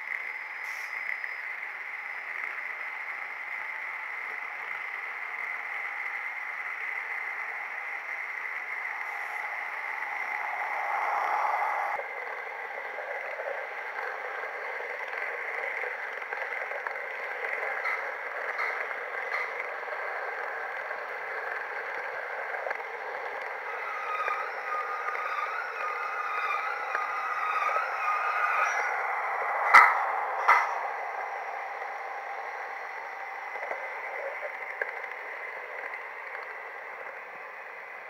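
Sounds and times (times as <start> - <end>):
model train wheels whirring: 0.0 - 38.0
steady whine: 0.0 - 38.0.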